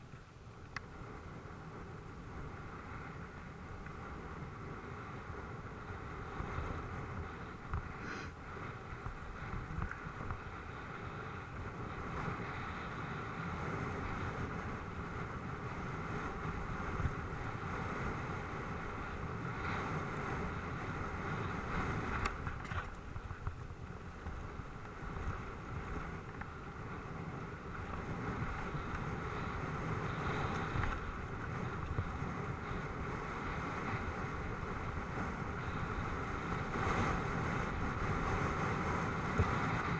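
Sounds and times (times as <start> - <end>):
bike tyres rumbling over dirt: 0.0 - 39.9
wind on microphone: 0.8 - 39.9.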